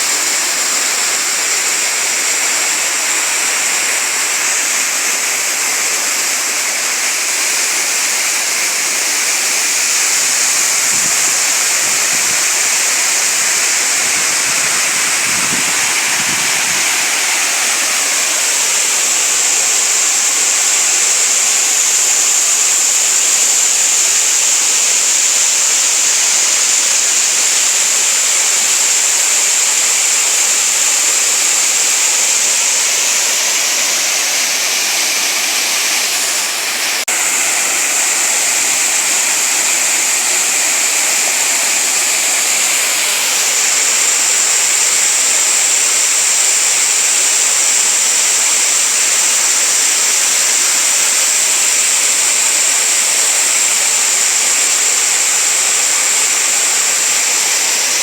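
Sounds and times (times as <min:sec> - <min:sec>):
waterfall and rushing stream: 0:00.0 - 0:58.0.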